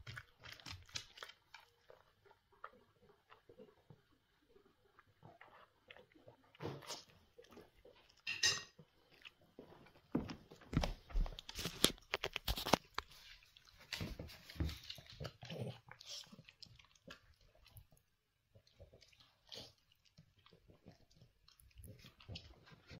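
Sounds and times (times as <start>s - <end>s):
dog chewing and licking: 0.0s - 23.0s.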